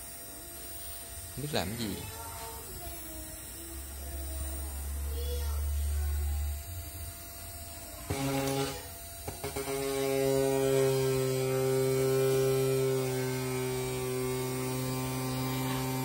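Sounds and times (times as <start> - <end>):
servo motor electric hum: 0.0 - 16.0.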